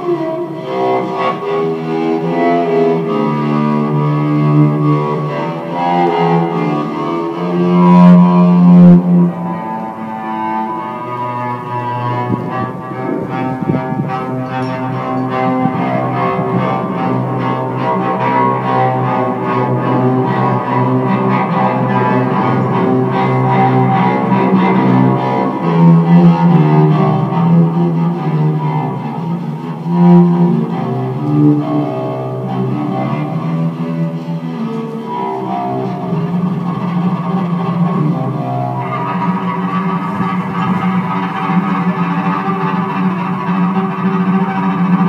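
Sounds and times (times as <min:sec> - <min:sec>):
bowed cello melody: 0:00.0 - 0:45.0.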